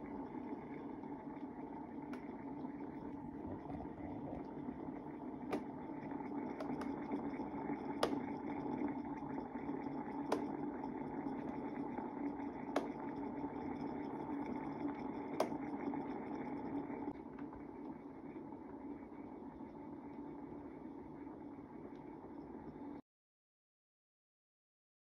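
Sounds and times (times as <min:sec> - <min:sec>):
humidifier humming: 0:00.0 - 0:23.0.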